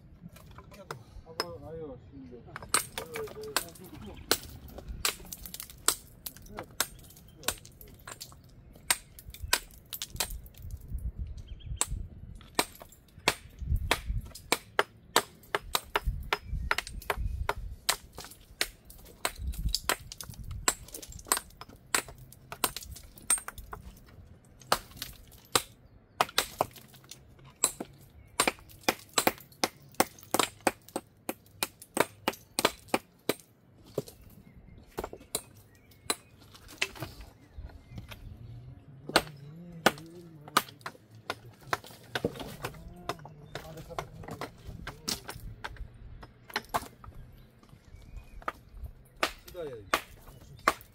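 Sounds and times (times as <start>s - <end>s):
hammers chipping stone: 2.5s - 10.8s, 11.8s - 34.2s, 34.8s - 37.2s, 39.1s - 50.9s
stones clacking together: 2.5s - 38.3s, 39.1s - 50.9s.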